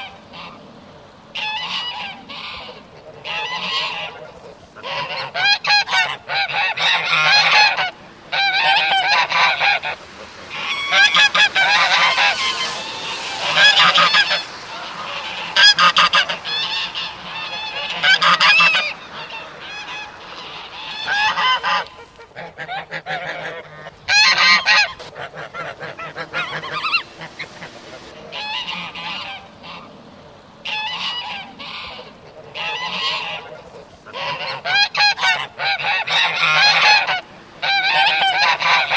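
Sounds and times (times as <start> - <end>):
geese honking: 0.0 - 38.9.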